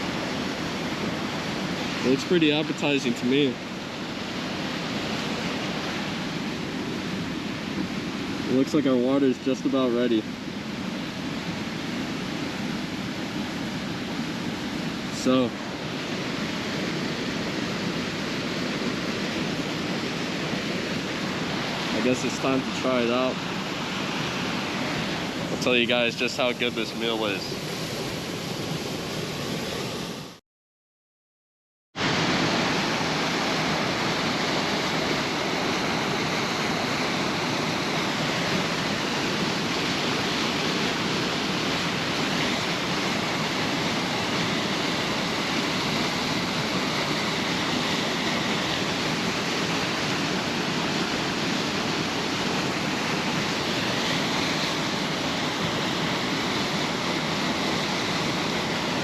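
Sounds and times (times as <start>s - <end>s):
waterfall rushing: 0.0s - 9.8s, 10.9s - 30.0s, 32.0s - 59.0s.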